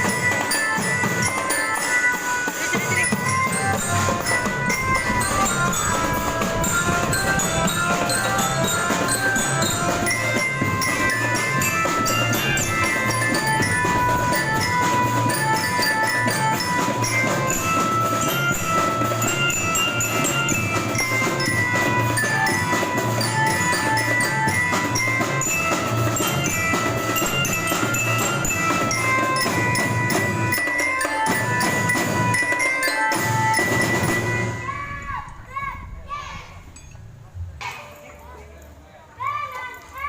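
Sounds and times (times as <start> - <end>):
snare and bass drum beats: 0.0 - 34.5
bell lyres playing a melody: 0.0 - 35.4, 36.6 - 38.9.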